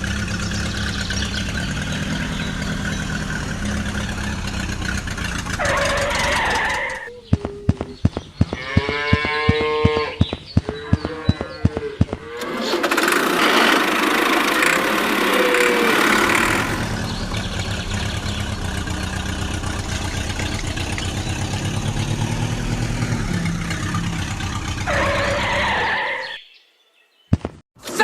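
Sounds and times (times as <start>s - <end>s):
small engine running: 0.0s - 25.8s
cattle lowing: 1.7s - 26.3s.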